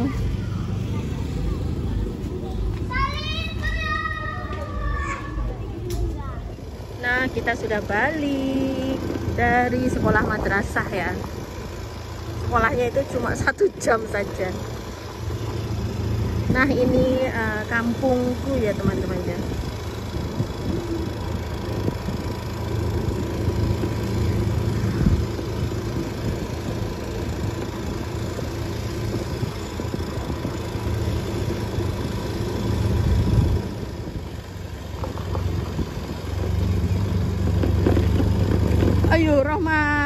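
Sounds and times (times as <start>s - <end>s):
small motorcycle engine running: 0.0s - 40.0s.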